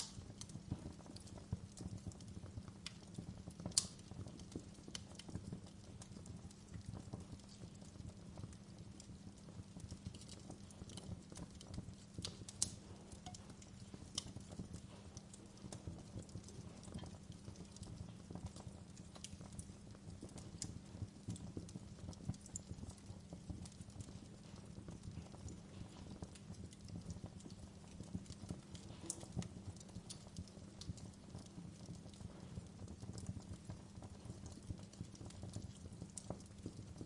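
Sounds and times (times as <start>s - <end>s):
fire rumbling: 0.0s - 37.0s
wood fire crackling and popping: 0.0s - 37.0s.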